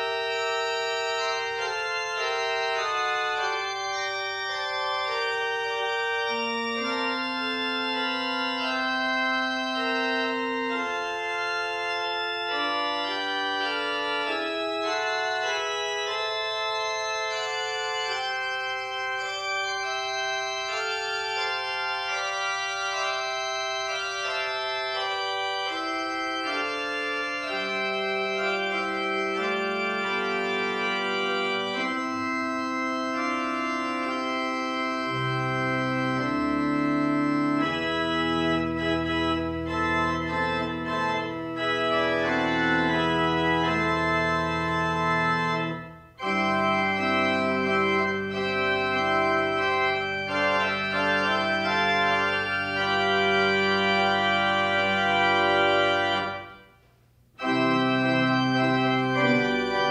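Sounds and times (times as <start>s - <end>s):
church organ chords: 0.0s - 59.9s.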